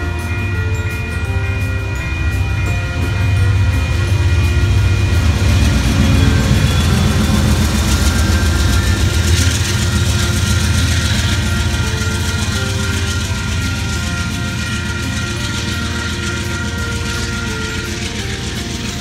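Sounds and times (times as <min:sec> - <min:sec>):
crossing signal bells ringing: 0:00.0 - 0:19.0
diesel locomotive passing: 0:00.0 - 0:19.0
train cars rumbling and clattering: 0:00.0 - 0:19.0.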